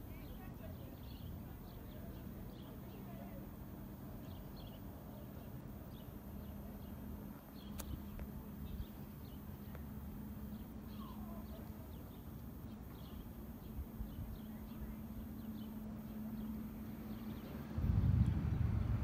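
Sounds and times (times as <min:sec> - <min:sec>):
small birds chirping: 0:00.1 - 0:18.8
low hum and rumble: 0:02.6 - 0:19.0.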